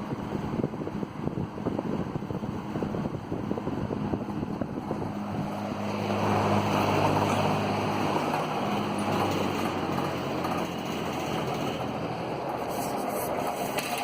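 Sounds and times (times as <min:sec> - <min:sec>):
fan air rushing: 0:00.0 - 0:14.0
fan bearing rattling: 0:00.0 - 0:14.0
fan motor hum: 0:00.0 - 0:14.0.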